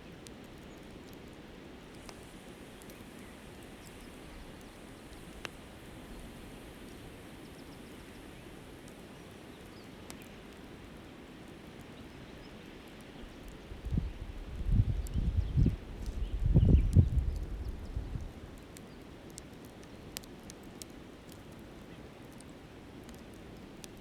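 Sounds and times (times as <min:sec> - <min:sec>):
campfire popping: 0:00.0 - 0:24.0.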